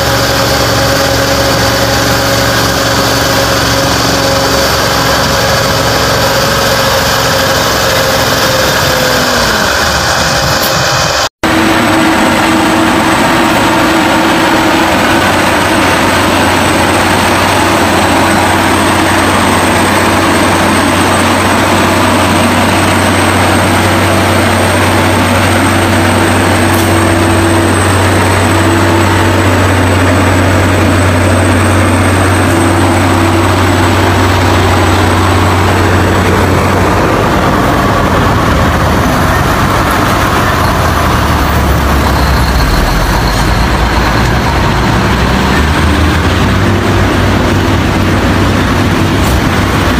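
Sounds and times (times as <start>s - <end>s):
truck engine droning under load: 0.0s - 49.9s.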